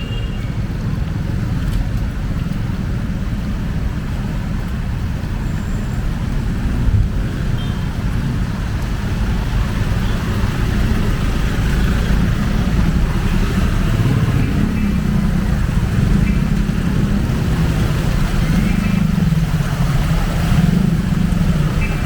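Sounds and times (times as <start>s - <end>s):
traffic on wet street: 0.0s - 22.0s.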